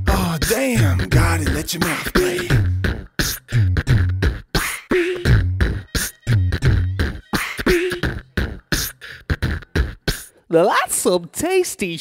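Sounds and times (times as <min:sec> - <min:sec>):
person beatboxing: 0:00.0 - 0:10.5.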